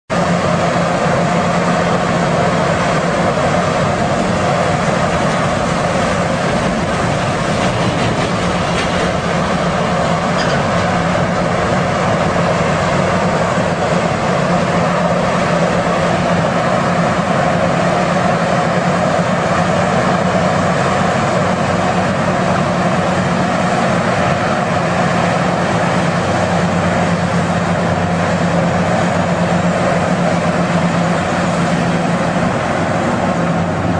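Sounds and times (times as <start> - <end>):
heavy machinery droning: 0.1 - 33.9.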